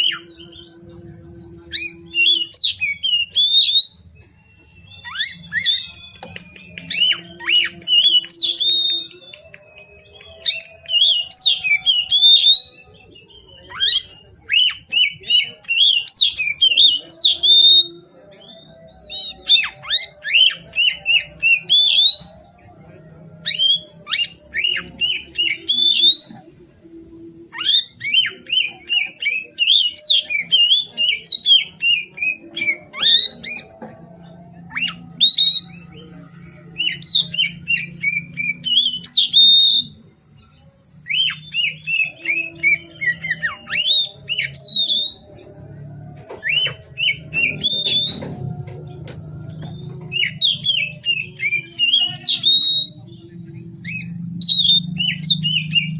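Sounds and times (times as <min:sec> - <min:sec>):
bird singing whistled phrases: 0:00.0 - 0:22.6, 0:23.3 - 0:26.7, 0:27.4 - 0:40.1, 0:41.0 - 0:45.5, 0:46.4 - 0:55.9.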